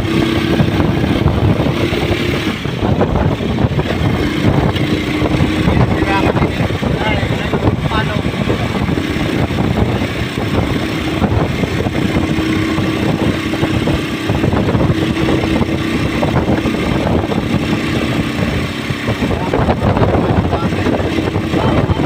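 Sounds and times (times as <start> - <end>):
motorcycle engine hum: 0.0 - 22.0
road noise rush: 0.0 - 22.0.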